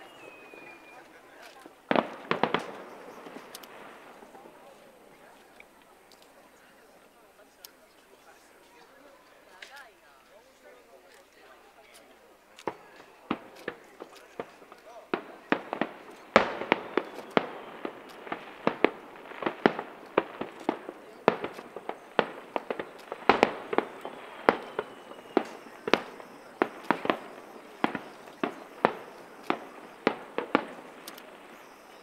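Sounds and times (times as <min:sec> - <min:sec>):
fireworks bursting with sharp bangs: 0:00.0 - 0:08.8, 0:11.1 - 0:32.0
fireworks crackling: 0:00.0 - 0:32.0.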